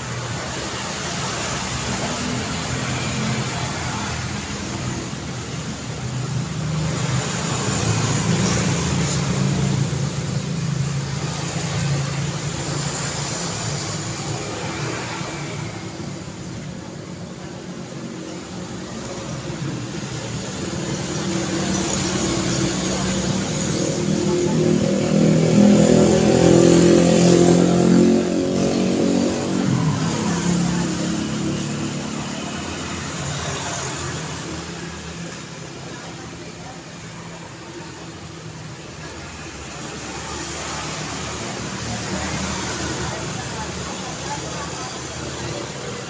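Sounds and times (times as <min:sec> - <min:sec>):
cars passing: 0:00.0 - 0:46.0.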